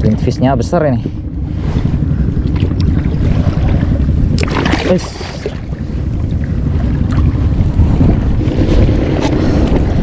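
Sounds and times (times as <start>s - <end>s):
water slapping boat: 0.0s - 10.0s
wind buffeting microphone: 0.0s - 10.0s.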